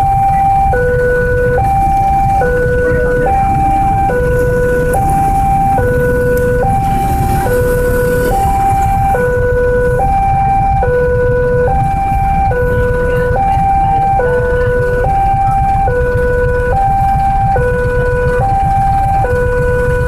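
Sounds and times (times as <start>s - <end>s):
level-crossing two-tone alarm: 0.0s - 20.0s
low rumble: 0.0s - 20.0s.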